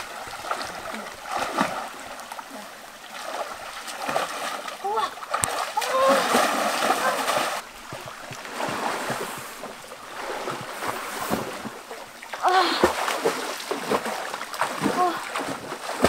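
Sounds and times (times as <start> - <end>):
flowing stream water: 0.0 - 16.0
water splashing from swimming: 0.0 - 16.0.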